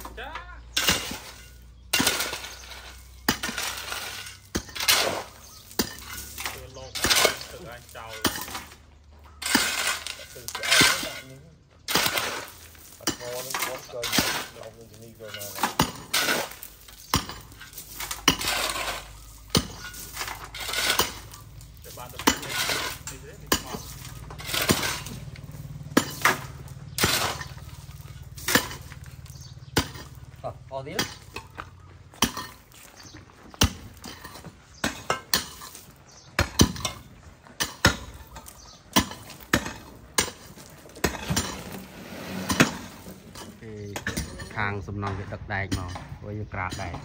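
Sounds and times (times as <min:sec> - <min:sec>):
metal utensils clattering in pots: 0:00.0 - 0:30.3, 0:31.0 - 0:47.0.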